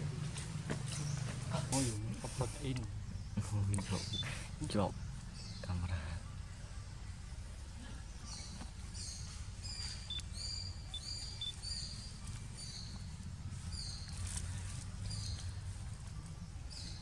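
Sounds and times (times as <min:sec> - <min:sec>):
small bird chirping: 0:00.9 - 0:05.8, 0:08.1 - 0:17.0.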